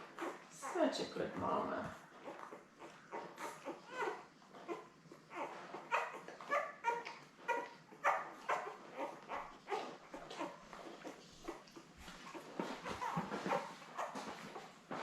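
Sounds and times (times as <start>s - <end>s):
puppies squeaking and grunting: 0.0s - 15.0s.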